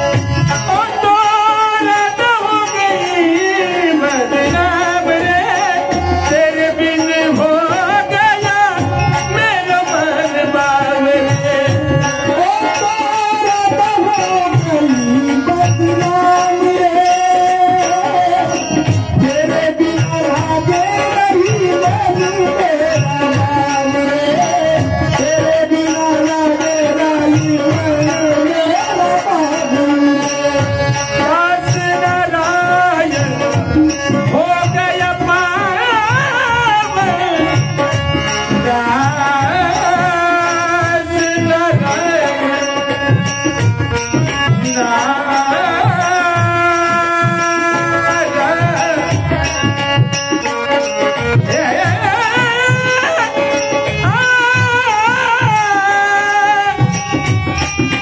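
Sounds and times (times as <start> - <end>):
high ticking beat: 0.0 - 58.0.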